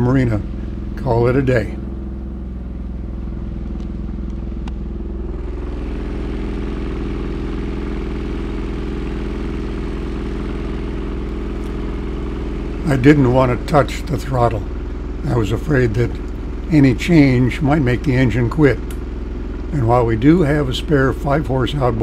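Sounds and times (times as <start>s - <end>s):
outboard motor running unevenly: 0.0s - 22.0s.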